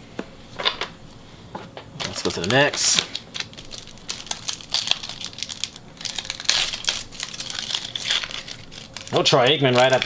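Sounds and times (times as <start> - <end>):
wrapper crinkling: 2.0 - 10.0.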